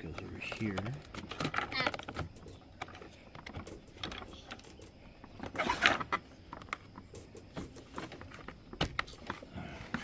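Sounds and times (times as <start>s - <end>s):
plastic rattle: 0.0s - 9.5s.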